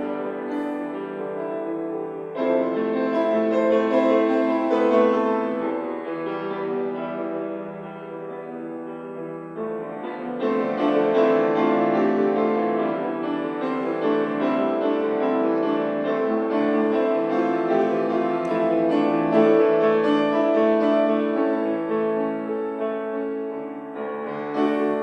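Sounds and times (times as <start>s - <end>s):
piano with long held notes: 0.0s - 25.0s.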